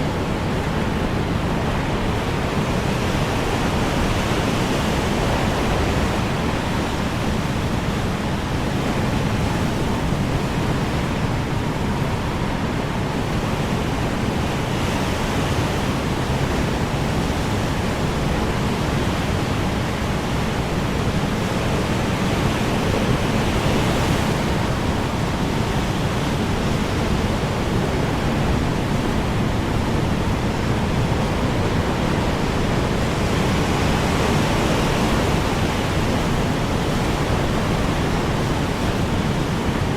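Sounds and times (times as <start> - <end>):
strong wind blowing: 0.0 - 39.9.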